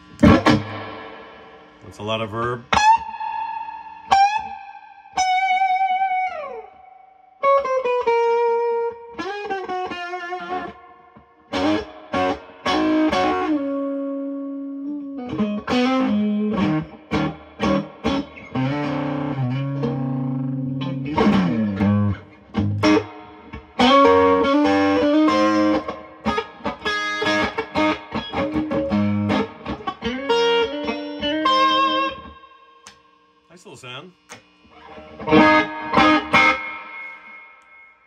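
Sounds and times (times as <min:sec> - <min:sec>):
electric guitar with reverb: 0:00.0 - 0:38.0.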